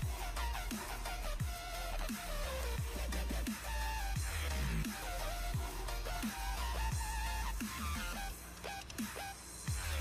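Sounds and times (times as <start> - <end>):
electronic music with sliding bass: 0.0 - 10.0.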